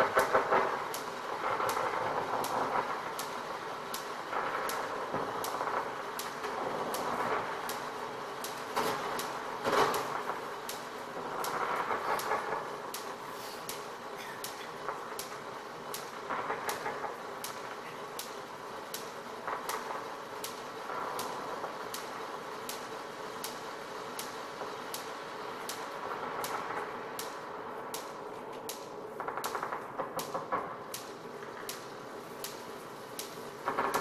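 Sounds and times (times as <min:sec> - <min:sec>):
steady clicking: 0:00.0 - 0:34.0.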